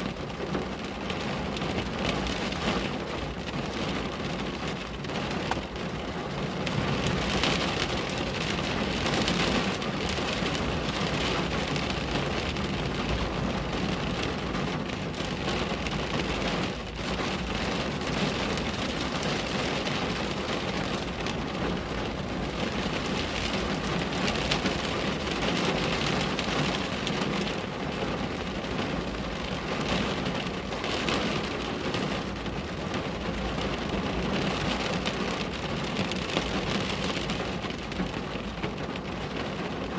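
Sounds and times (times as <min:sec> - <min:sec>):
rain falling on a window: 0:00.0 - 0:39.9.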